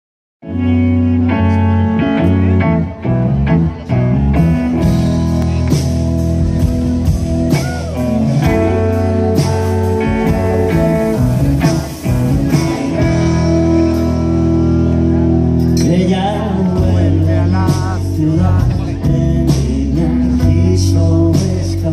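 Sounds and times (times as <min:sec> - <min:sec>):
electric guitars: 0:00.4 - 0:21.9
deep sustained bass: 0:00.5 - 0:21.9.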